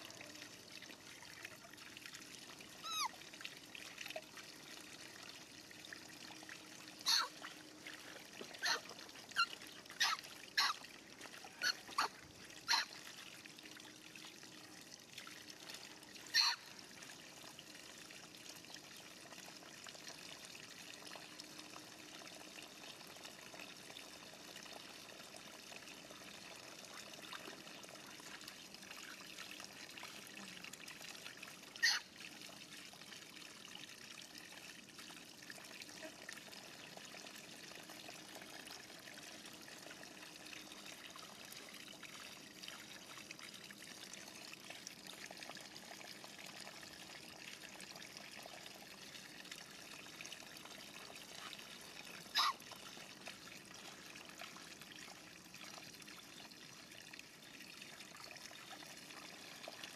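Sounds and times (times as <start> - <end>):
water trickling into metal basin: 0.0 - 59.9.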